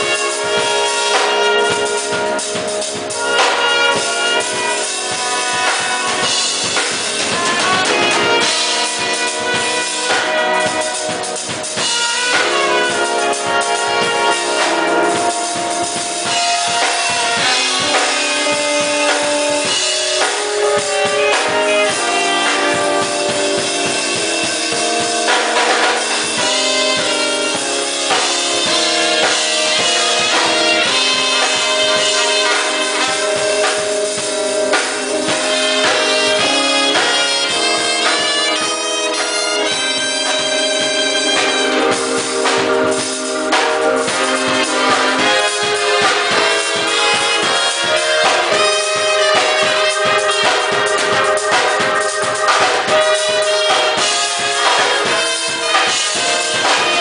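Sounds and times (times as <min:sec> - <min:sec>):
drum kit: 0:00.0 - 0:57.0
sustained pitched instruments: 0:00.0 - 0:57.0.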